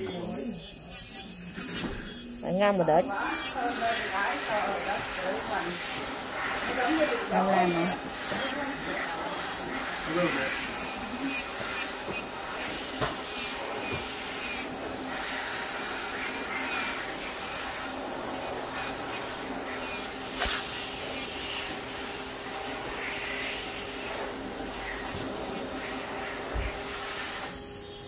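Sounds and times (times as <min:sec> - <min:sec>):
nail filing strokes: 0:00.0 - 0:28.0
small motor running: 0:00.0 - 0:28.0.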